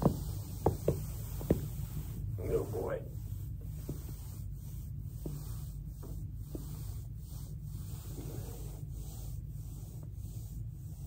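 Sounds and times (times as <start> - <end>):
foam roller swishing on carpet: 0.0 - 11.0
steady low hum: 0.0 - 11.0.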